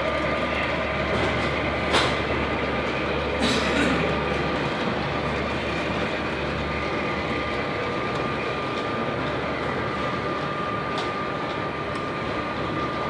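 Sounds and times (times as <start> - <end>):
model train rumbling and rattling: 0.0 - 13.0.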